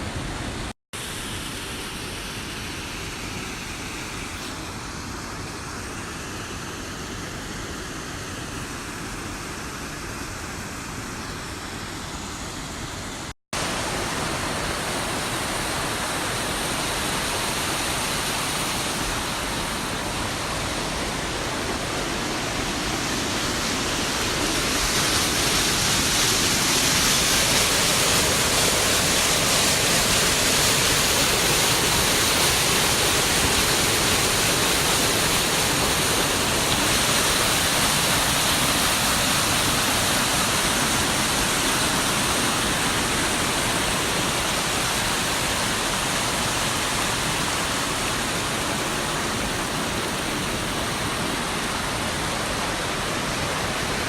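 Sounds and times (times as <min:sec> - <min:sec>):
rushing water cascade: 0:00.0 - 0:54.0.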